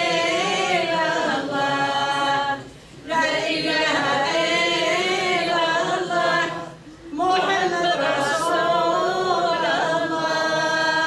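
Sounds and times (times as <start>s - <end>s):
elderly woman singing a chant: 0.0s - 11.0s.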